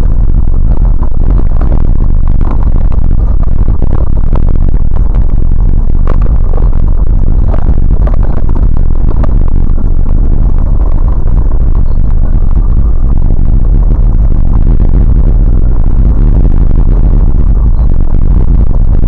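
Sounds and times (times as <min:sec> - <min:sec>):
vehicle rumble on rough track: 0:00.0 - 0:19.0.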